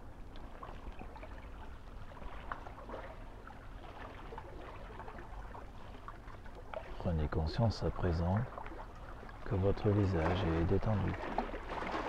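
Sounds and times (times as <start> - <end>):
small waves lapping and splashing: 0.0 - 12.0.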